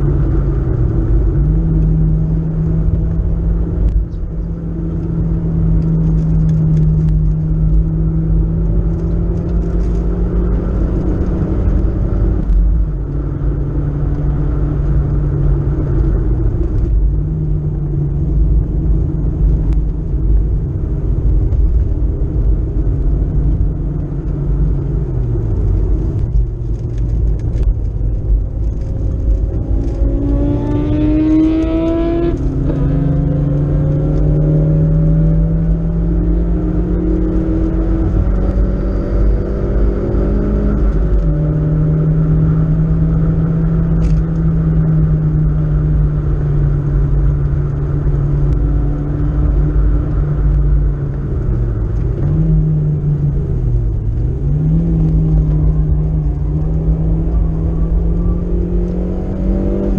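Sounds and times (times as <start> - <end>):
car engine revving: 0.0 - 59.9
road and tyre rumble: 0.0 - 59.9.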